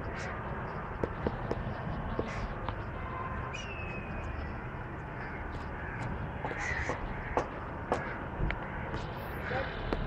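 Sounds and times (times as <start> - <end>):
outdoor background rumble: 0.0 - 10.0.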